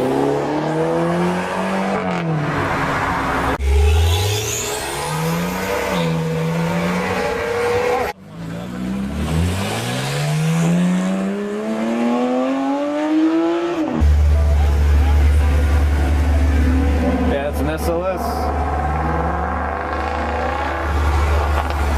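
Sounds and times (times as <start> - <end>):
car engines revving: 0.0 - 21.9.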